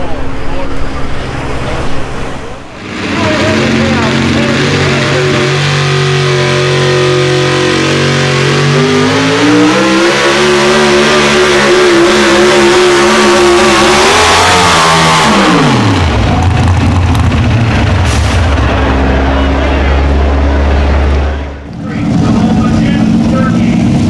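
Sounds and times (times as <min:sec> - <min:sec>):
tractor engine revving: 0:00.0 - 0:24.0.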